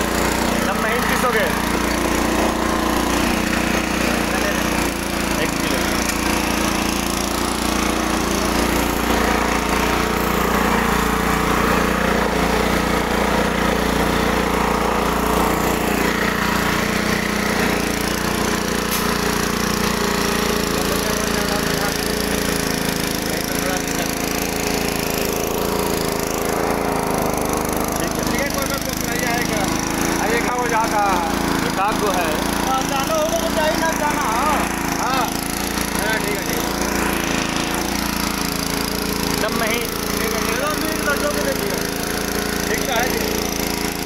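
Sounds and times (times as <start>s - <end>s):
flour mill motor hum: 0.0s - 44.0s
grinding noise: 0.0s - 44.0s.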